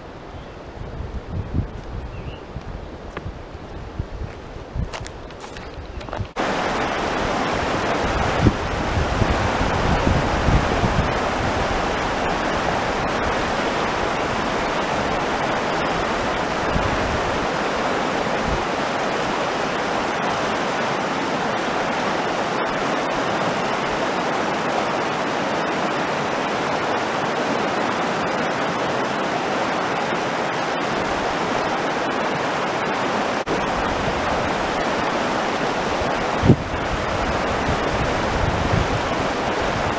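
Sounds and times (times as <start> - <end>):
river rushing over stones: 4.5 - 39.9.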